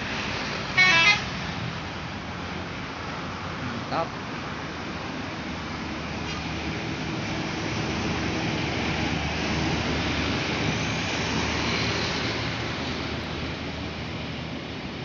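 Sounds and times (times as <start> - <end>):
buses driving past: 0.0 - 15.0
tyre and road noise: 0.0 - 15.0.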